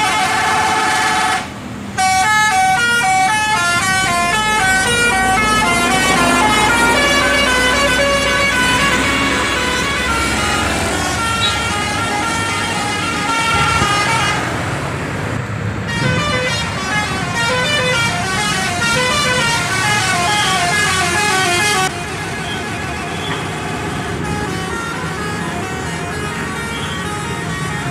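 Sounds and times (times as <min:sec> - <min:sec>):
multi-tone bus air horn tunes: 0:00.0 - 0:14.5, 0:15.9 - 0:27.9.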